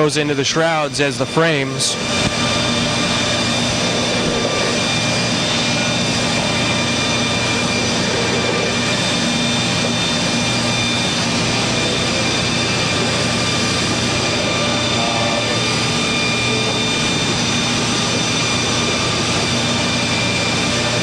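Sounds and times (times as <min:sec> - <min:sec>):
buffing machines running: 0:00.0 - 0:21.0
low hum: 0:00.0 - 0:21.0.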